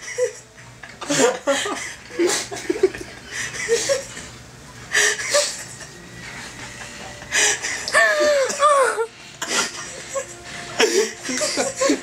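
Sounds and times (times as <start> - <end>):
man wheezing laughter: 0.0 - 4.3, 4.9 - 12.0.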